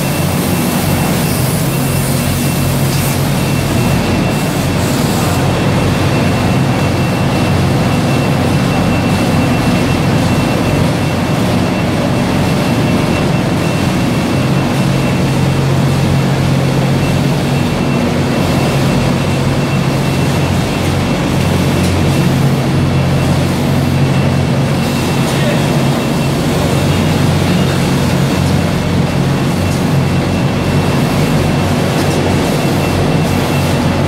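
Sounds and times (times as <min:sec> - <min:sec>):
high-pitched whine: 0:00.0 - 0:34.0
packing machines and conveyors: 0:00.0 - 0:34.0.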